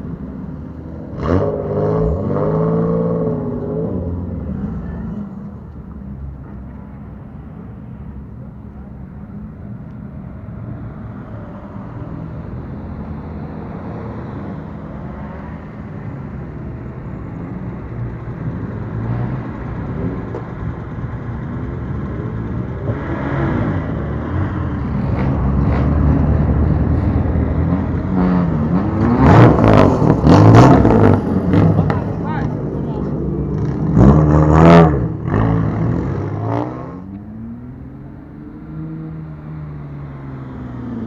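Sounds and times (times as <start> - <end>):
car engine and exhaust rumbling: 0.0 - 41.0.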